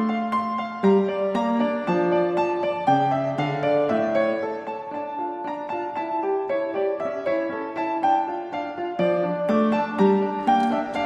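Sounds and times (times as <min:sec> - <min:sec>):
keyboard melody: 0:00.0 - 0:11.0.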